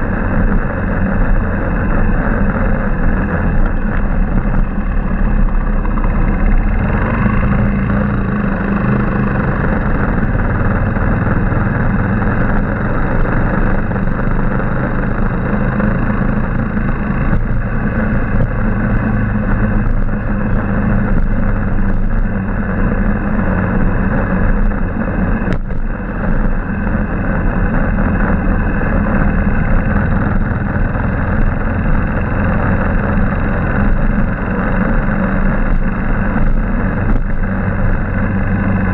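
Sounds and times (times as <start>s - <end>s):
motorcycle engine running: 0.0s - 38.9s
rushing wind noise: 0.0s - 38.9s.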